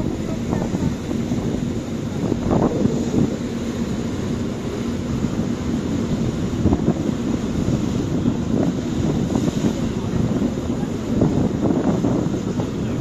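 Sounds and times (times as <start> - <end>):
ferry engine droning: 0.0 - 13.0
wind buffeting microphone: 0.0 - 13.0.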